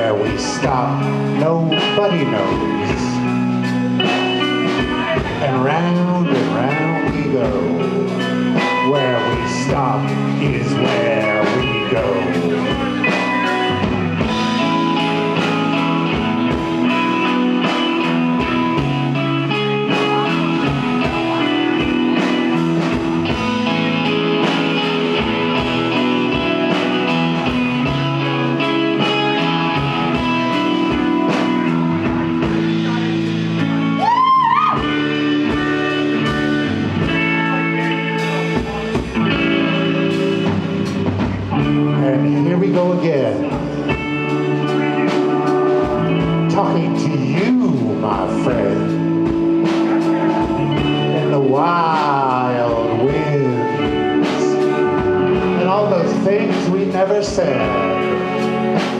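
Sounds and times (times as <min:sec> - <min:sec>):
electric guitar: 0:00.0 - 0:58.9
live rock band playing: 0:00.0 - 0:58.9.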